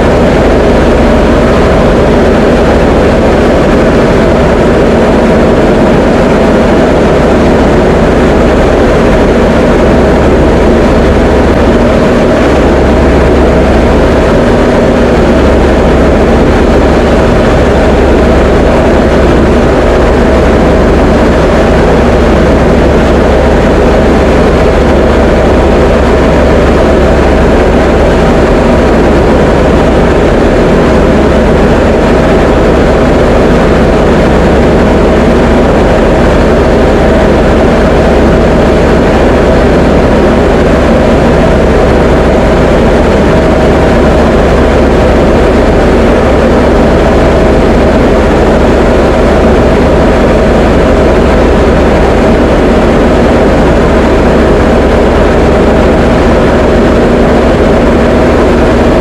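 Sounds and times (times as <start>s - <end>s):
aircraft engine and propeller droning: 0.0s - 59.0s
low hum: 0.0s - 59.0s.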